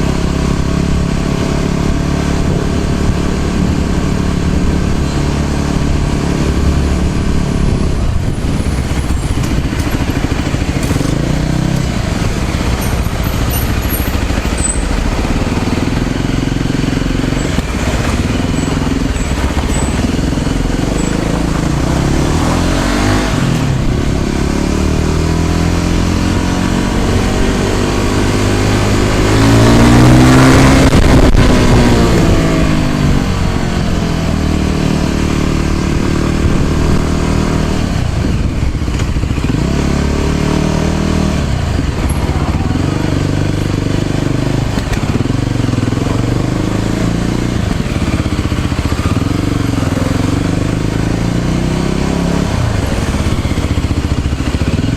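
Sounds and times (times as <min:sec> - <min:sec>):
small motorcycle engine running: 0:00.0 - 0:54.9.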